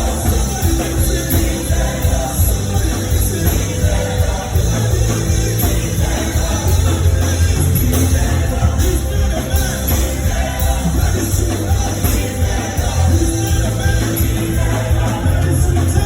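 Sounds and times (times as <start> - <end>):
music with singing and bass: 0.0 - 16.0.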